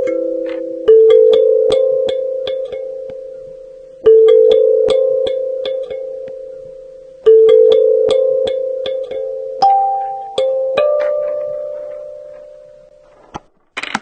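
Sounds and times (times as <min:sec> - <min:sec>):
ringing bell-like tone: 0:00.0 - 0:13.2.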